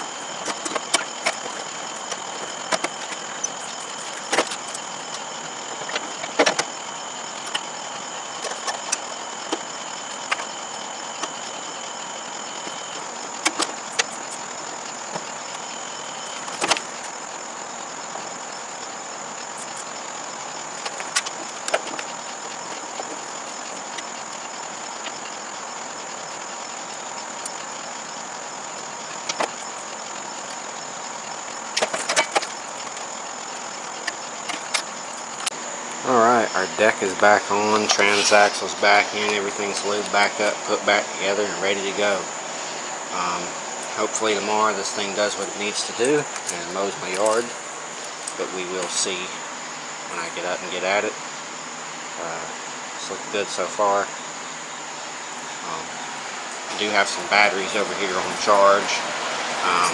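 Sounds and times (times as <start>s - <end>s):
constant high tone: 0.0s - 59.9s
steady background hiss: 0.0s - 59.9s.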